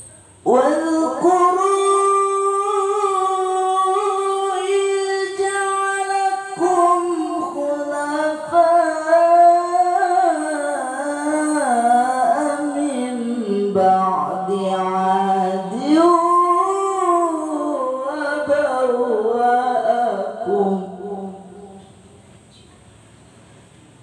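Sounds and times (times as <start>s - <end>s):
boy reciting melodically through microphone: 0.0s - 23.2s.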